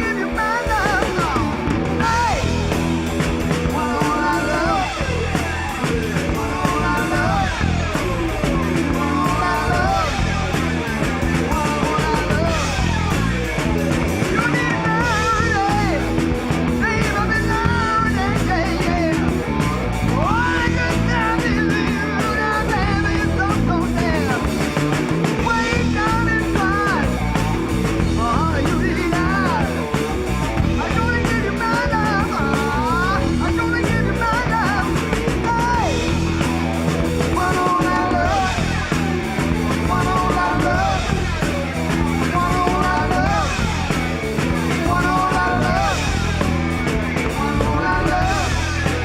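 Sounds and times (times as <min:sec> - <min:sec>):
electric guitar bending notes: 0:00.0 - 0:49.0
rock band playing live: 0:00.0 - 0:49.0.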